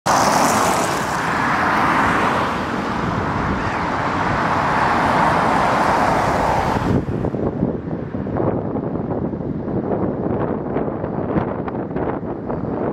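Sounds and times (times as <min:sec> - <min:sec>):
road traffic: 0:00.0 - 0:12.9
wind rumble on microphone: 0:00.1 - 0:12.9.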